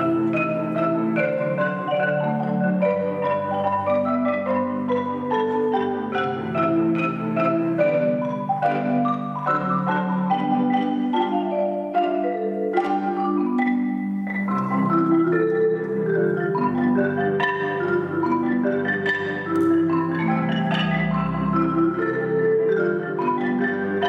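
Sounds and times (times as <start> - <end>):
marimba duet: 0.0 - 24.0.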